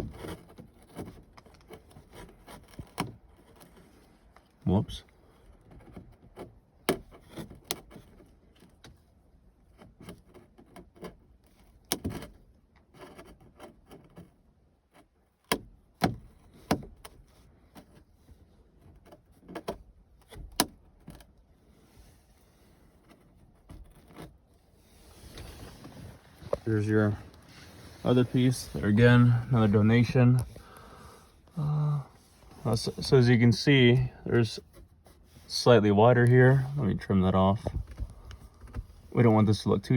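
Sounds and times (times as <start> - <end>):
faint rubbing and handling: 0.0 - 39.9.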